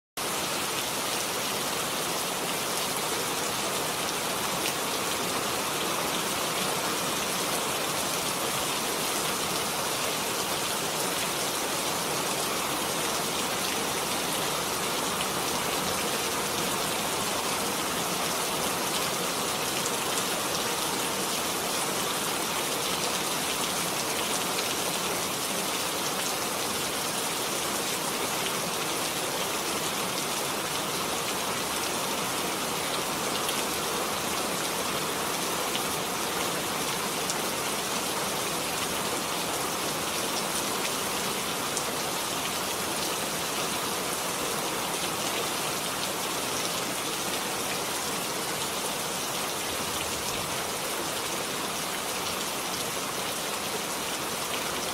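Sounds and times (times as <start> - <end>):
steady rain falling: 0.2 - 54.9.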